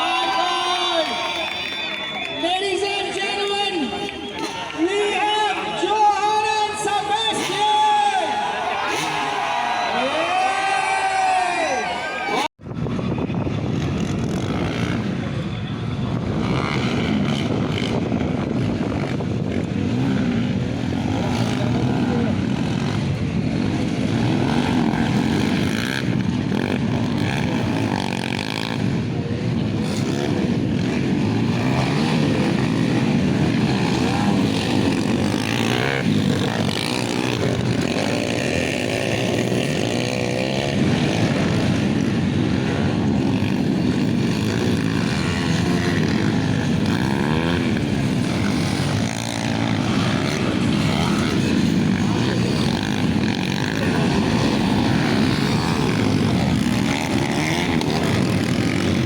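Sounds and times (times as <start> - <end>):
motocross engines revving: 0.0 - 59.0.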